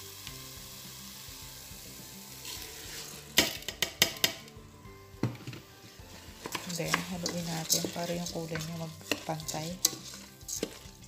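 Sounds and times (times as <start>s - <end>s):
tomato paste sizzling in pot: 0.0s - 11.0s.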